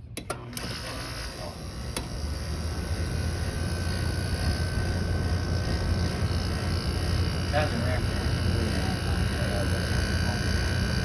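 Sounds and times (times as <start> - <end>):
air conditioner fan noise: 0.0 - 11.0
faint steady whine: 0.0 - 11.0
low hum: 1.6 - 11.0.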